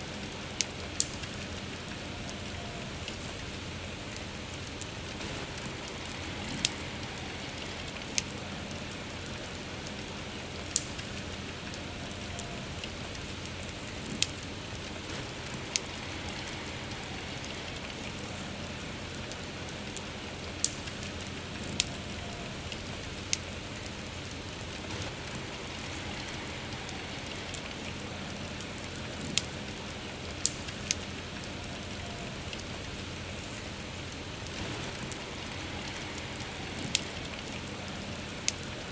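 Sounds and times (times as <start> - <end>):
steady rain hiss: 0.0 - 38.9
wood fire crackling and popping: 0.0 - 38.9.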